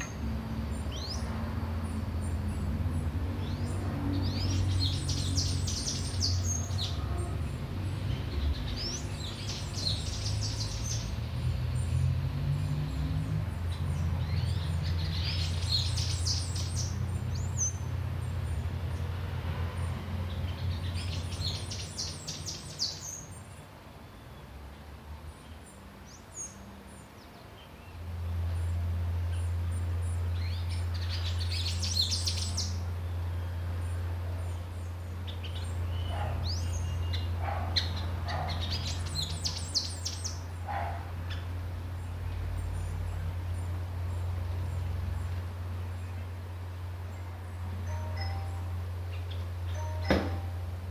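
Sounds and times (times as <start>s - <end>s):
small birds chirping: 0.0s - 19.2s, 19.8s - 24.6s, 25.3s - 50.6s.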